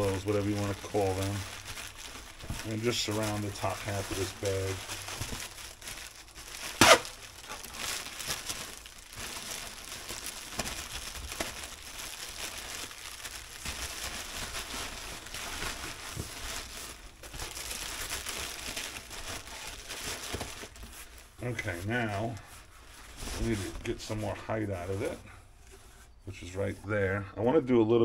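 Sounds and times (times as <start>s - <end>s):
plastic packing crinkling: 0.0s - 25.3s.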